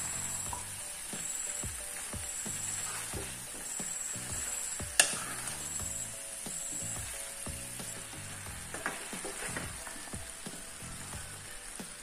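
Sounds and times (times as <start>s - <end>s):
spatula scraping and tapping pan: 0.0s - 11.4s
chicken sizzling in a pan: 0.0s - 12.0s.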